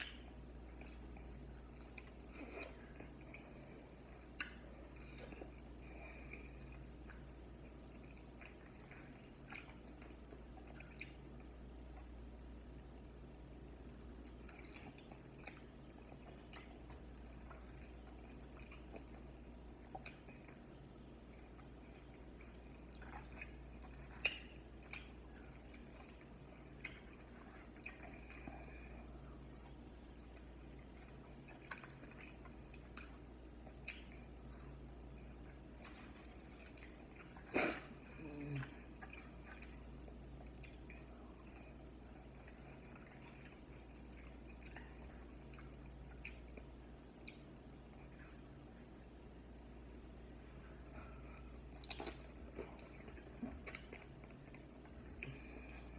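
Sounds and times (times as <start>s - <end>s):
chewing and biting: 0.0s - 12.2s, 14.1s - 48.5s, 51.4s - 55.9s.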